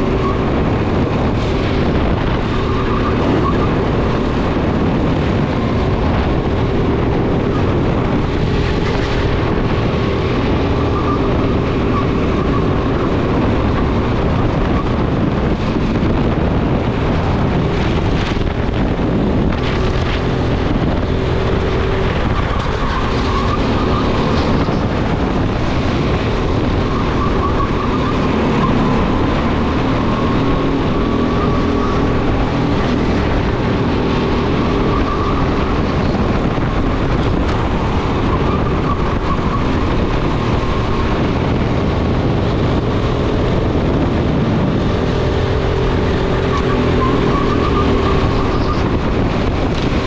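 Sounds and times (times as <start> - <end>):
go-kart engine racing: 0.0 - 50.0.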